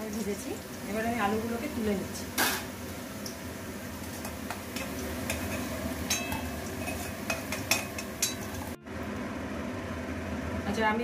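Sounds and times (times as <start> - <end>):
oil sizzling: 0.0 - 10.8.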